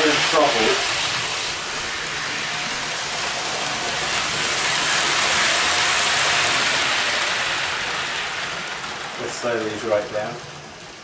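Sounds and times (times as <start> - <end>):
model train motors whirring: 0.0 - 11.0.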